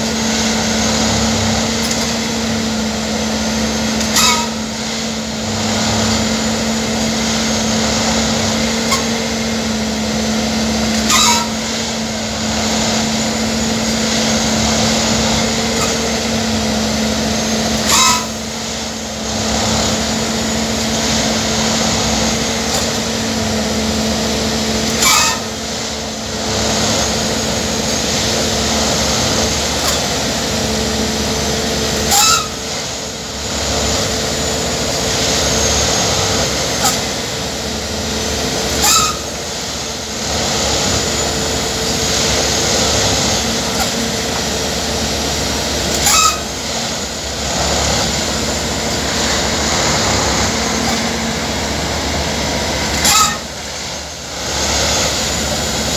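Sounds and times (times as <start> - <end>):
track machine engine hum: 0.0 - 55.9.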